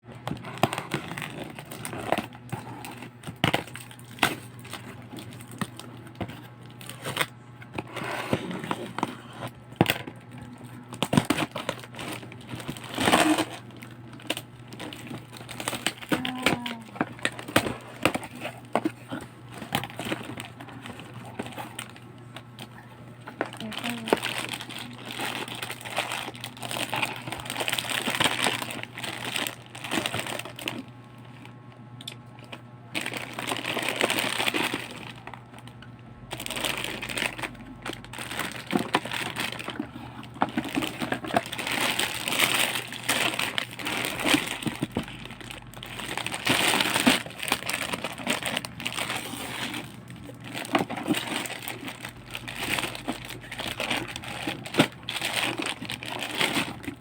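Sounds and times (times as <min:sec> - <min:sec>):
packaging crinkling and rustling: 0:00.1 - 0:31.6, 0:32.4 - 0:57.0.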